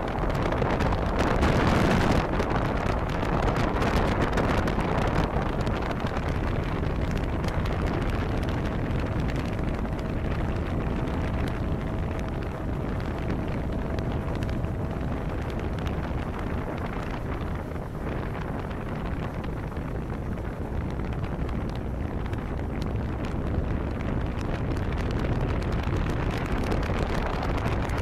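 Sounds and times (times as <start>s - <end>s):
faint steady whine: 0.0s - 28.0s
motorboat engine drone: 0.0s - 28.0s
wind buffeting the microphone: 0.0s - 28.0s.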